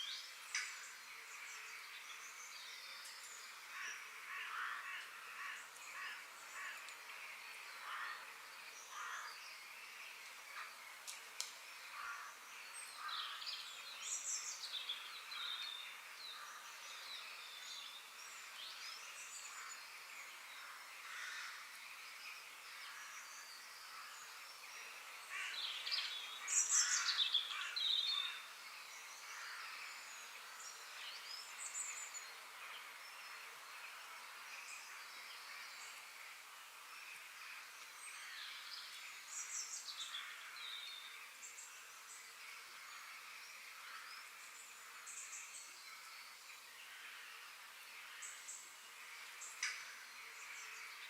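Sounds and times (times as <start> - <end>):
faint steady hiss: 0.0 - 51.0
songbirds singing: 0.0 - 51.0.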